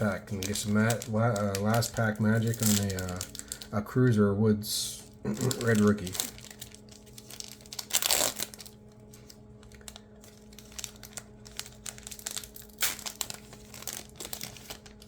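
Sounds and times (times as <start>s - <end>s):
foil wrapper tearing and crinkling: 0.0s - 3.8s, 4.9s - 15.0s.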